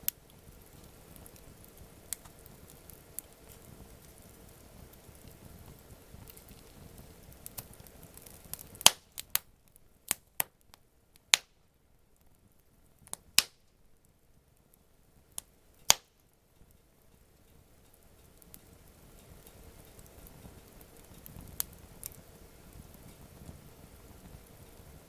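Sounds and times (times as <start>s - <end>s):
burning wood popping: 0.0s - 25.0s
campfire crackling: 0.0s - 25.0s.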